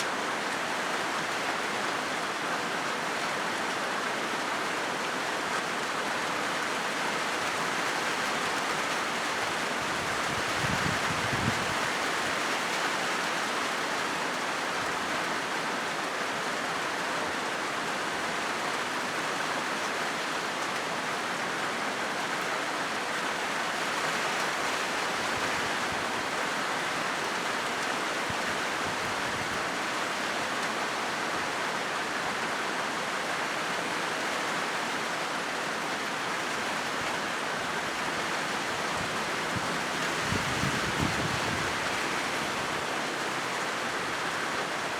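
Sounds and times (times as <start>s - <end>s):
rain on a metal roof: 0.0s - 44.9s.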